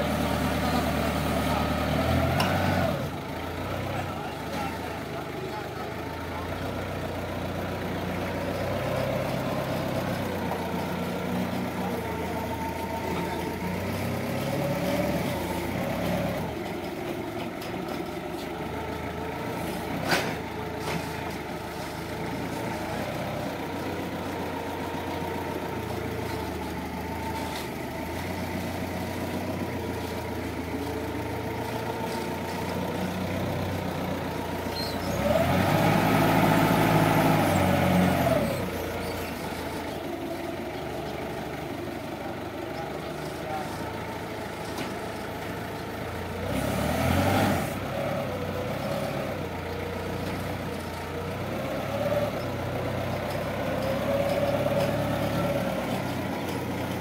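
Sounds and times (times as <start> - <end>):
forklift engine running: 0.0 - 57.0.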